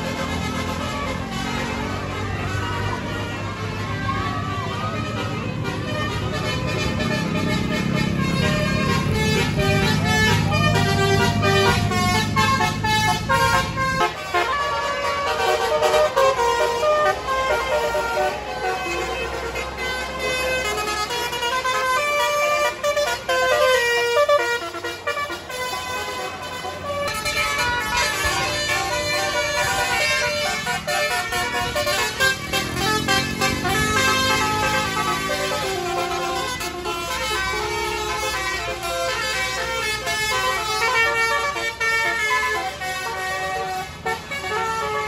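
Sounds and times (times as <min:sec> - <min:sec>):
bus engine rumble: 0:00.0 - 0:45.0
multi-tone musical bus horn: 0:00.0 - 0:45.0.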